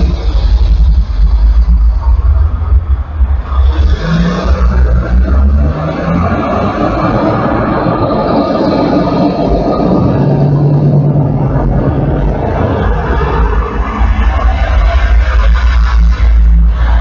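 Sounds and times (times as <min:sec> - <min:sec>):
deep low rumble: 0:00.0 - 0:17.0.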